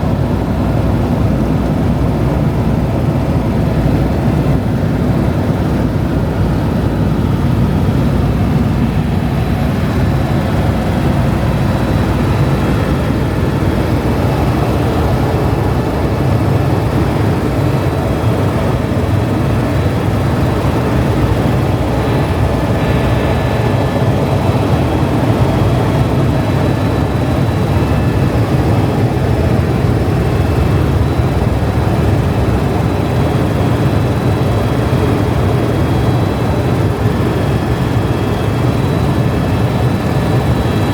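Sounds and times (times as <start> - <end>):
helicopter engine and rotors: 0.0 - 40.9
faint high whine: 6.6 - 40.9.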